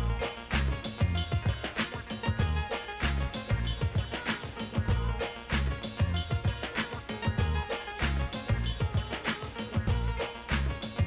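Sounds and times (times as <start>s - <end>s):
funk music with bass and drums: 0.0s - 11.0s.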